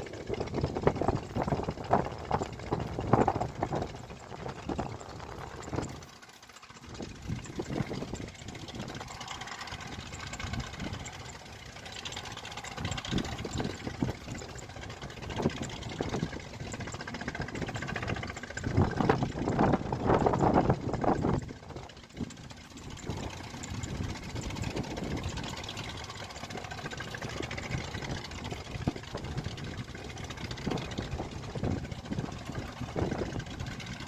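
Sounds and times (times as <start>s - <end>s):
heavy machinery diesel engines: 0.0s - 34.0s.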